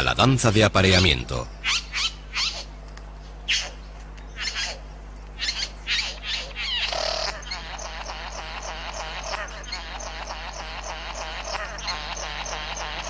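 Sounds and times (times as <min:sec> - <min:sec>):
bird calling: 0:00.8 - 0:13.0.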